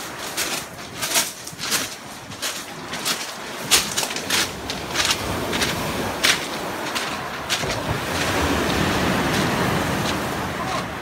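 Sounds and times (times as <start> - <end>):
footsteps crunching on pebbles: 0.0 - 10.3
surf washing on shingle: 0.0 - 11.0.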